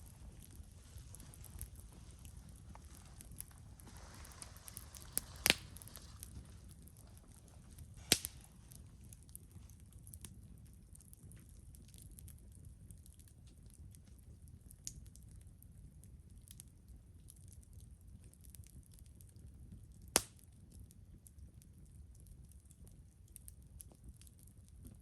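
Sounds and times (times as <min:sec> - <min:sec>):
campfire crackling: 0:00.0 - 0:25.0
fire popping: 0:00.0 - 0:25.0.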